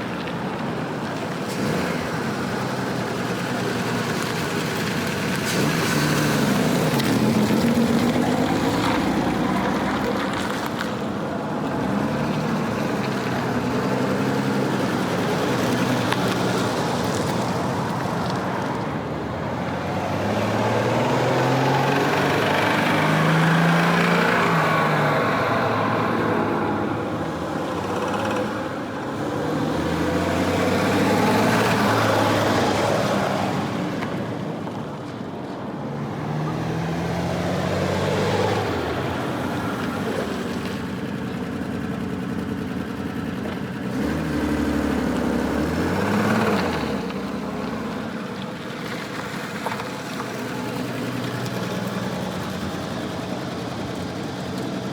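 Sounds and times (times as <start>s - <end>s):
car engine revving with gear shifts: 0.0s - 54.9s
road and wind noise: 0.0s - 54.9s.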